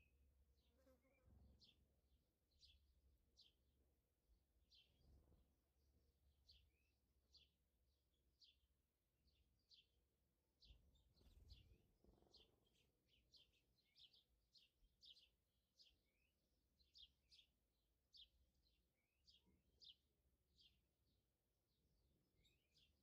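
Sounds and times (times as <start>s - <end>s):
small birds chirping: 0.0s - 3.7s, 4.6s - 23.0s.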